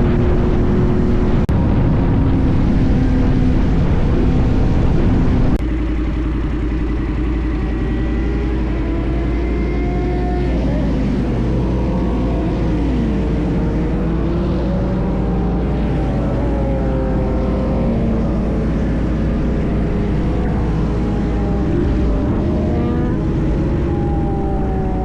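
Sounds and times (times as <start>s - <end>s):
motorcycle engine rumbling: 0.0s - 25.0s.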